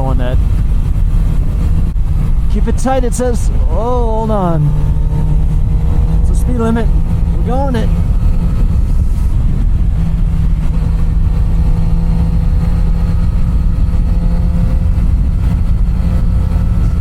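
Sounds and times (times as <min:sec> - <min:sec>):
motorcycle engine cruising: 0:00.0 - 0:17.0
wind rumble on microphone: 0:00.0 - 0:17.0.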